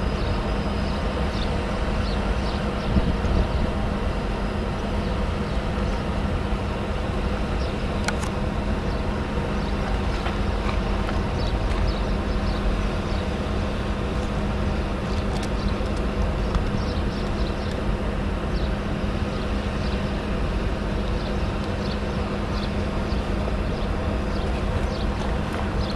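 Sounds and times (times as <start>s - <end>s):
constant hum: 0.0s - 25.9s
freight train rumbling: 0.0s - 25.9s.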